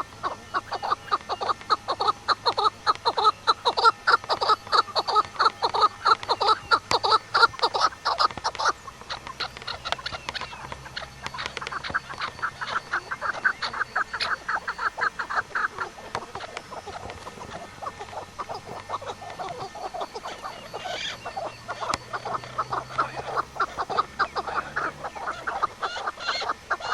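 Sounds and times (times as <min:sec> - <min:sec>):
waterfowl calling: 0:00.0 - 0:26.9.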